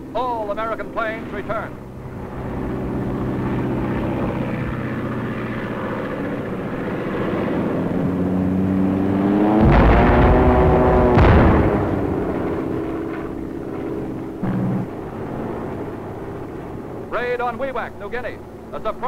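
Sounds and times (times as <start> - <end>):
loud surges of noise: 0.0 - 19.0
propeller aircraft engines droning: 0.0 - 19.0.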